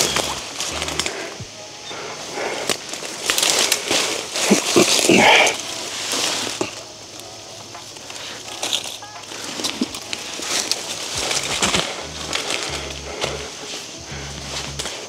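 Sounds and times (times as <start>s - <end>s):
footsteps crunching on dry leaves: 2.1s - 15.0s.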